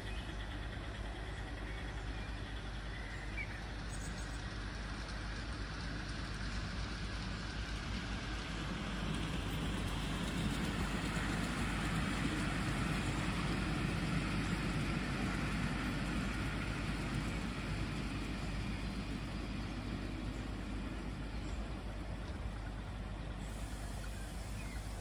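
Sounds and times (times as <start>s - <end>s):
miniature train rumbling on track: 0.0s - 25.0s.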